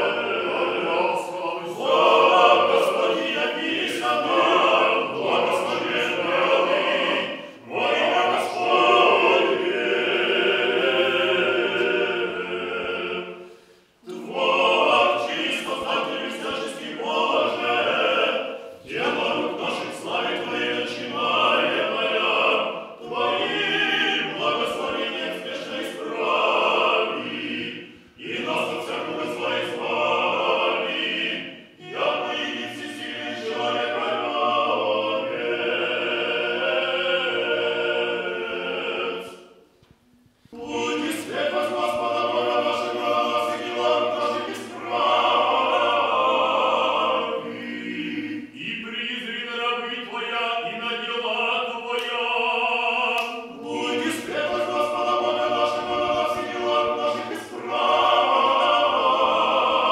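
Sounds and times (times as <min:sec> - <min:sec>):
choir chanting unaccompanied: 0:00.0 - 0:39.7, 0:40.4 - 0:59.9.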